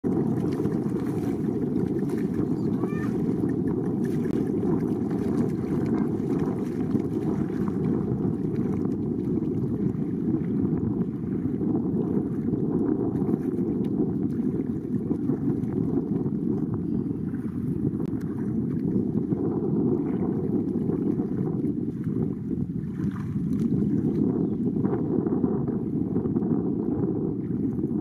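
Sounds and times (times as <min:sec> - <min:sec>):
feet wading through shallow water: 0:00.0 - 0:28.0
wind rumble on microphone: 0:00.0 - 0:28.0.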